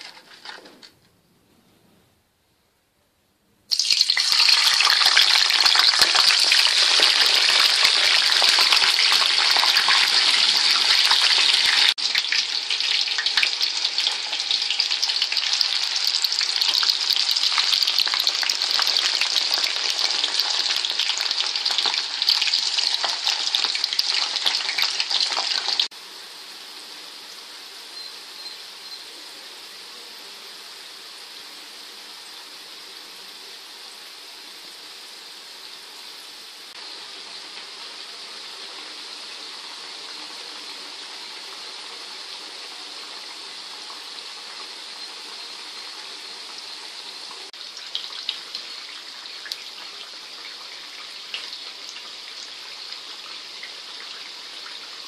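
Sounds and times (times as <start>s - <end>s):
potato sticks sizzling in hot oil: 3.7s - 55.0s.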